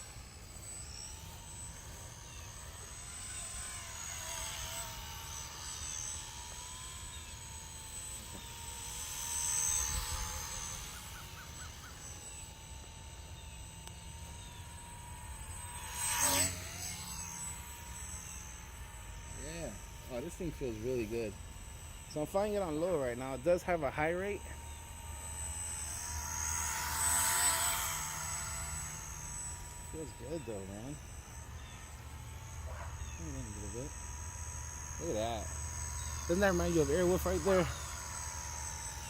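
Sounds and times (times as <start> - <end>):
model helicopter motor whine: 0.0 - 39.0.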